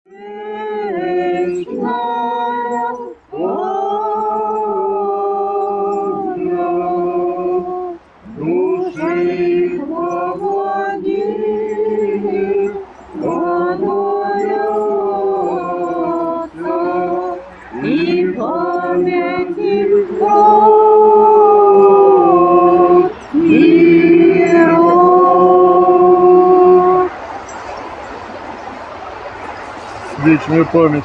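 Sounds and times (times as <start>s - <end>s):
choir singing unaccompanied chant: 0.1s - 27.5s.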